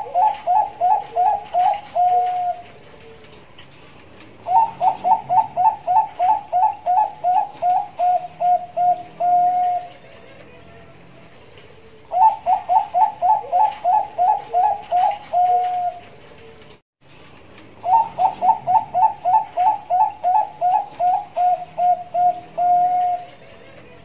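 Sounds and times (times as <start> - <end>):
dove cooing: 0.0 - 16.8, 17.8 - 24.0.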